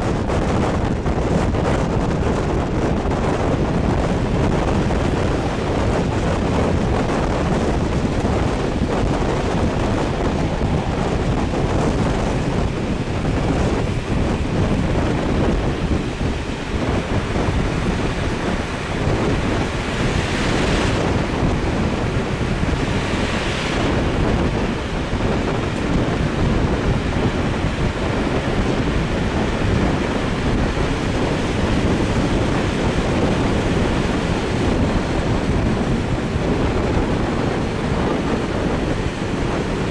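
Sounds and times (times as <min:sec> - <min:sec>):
moving train rumble: 0:00.0 - 0:39.9
wind buffeting microphone: 0:00.0 - 0:39.9.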